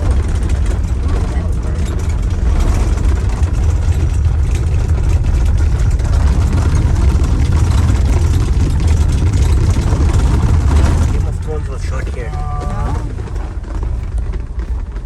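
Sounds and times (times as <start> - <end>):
vehicle engine and tire rumble: 0.0 - 15.0.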